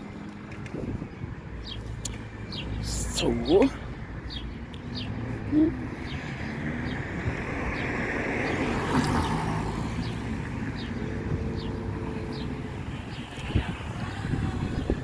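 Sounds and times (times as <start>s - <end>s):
car passing by: 2.2s - 15.0s.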